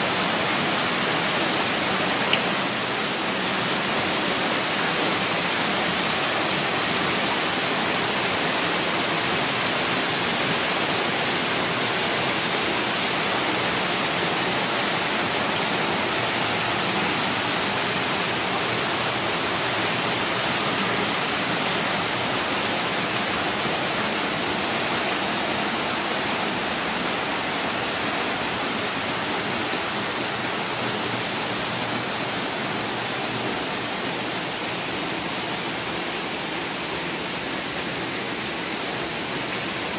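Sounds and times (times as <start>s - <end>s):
rainwater splashing onto concrete floor: 0.1s - 35.4s.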